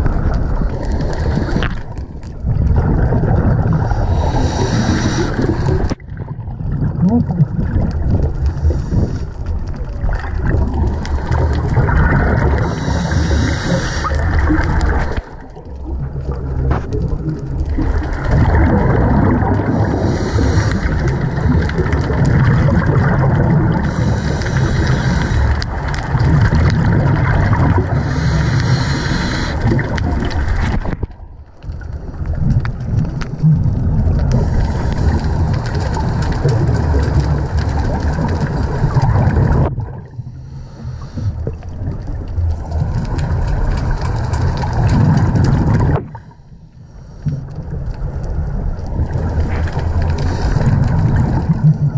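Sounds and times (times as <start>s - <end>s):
diver exhaling bubbles: 0.0s - 31.1s, 32.1s - 46.5s, 47.3s - 51.9s
muffled underwater rumble: 0.0s - 51.9s.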